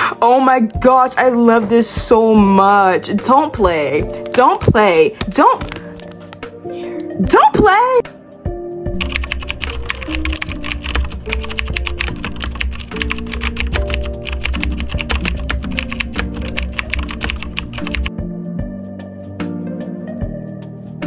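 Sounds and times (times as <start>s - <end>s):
lo-fi background music: 0.0s - 21.0s.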